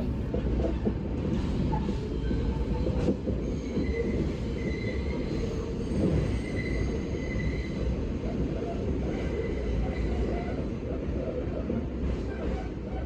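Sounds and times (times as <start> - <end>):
subway train rumbling in tunnel: 0.0 - 13.0.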